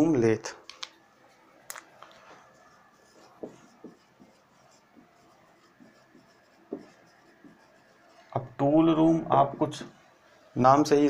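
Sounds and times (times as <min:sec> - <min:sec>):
marker pen writing on whiteboard: 0:00.4 - 0:10.0.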